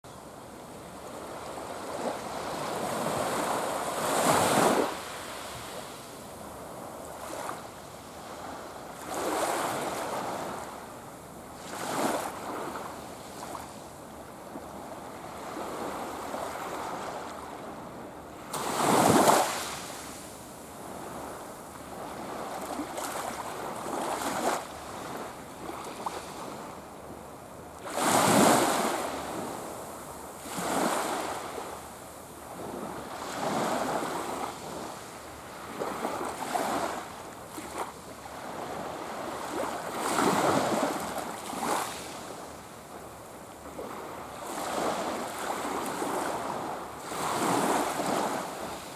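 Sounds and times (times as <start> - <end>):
small waves washing onto sand: 0.2 - 17.8, 18.4 - 48.9.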